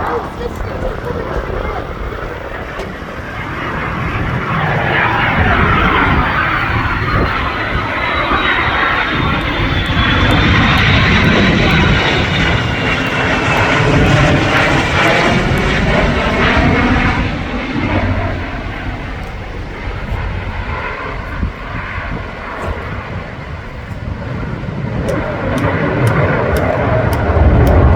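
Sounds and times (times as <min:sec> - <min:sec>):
fighter jet roar: 0:00.0 - 0:27.9.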